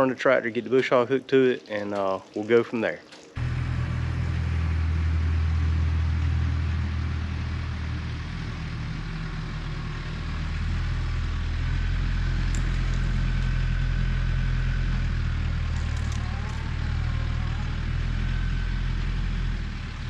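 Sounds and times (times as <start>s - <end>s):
tractor engine idling: 3.4s - 20.0s.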